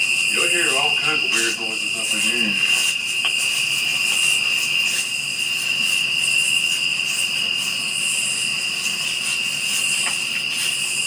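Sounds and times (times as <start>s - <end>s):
crickets trilling: 0.0s - 11.0s
pulsing shrill insect buzz: 0.0s - 11.0s.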